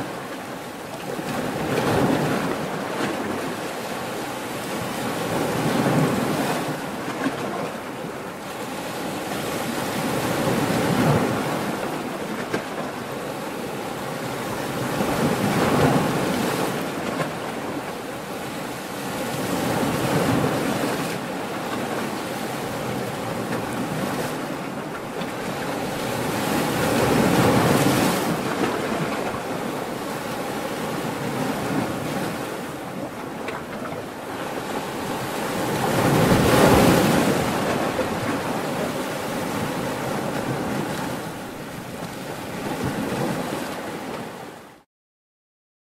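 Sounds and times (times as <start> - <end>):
ocean waves crashing: 0.0 - 44.8.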